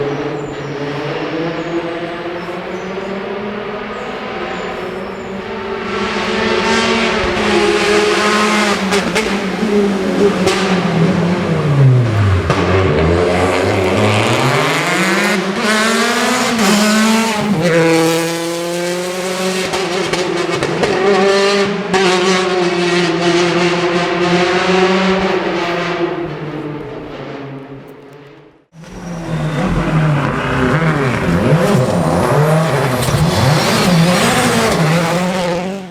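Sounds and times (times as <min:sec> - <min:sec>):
rally car engine revving: 0:00.0 - 0:27.8, 0:28.8 - 0:35.9.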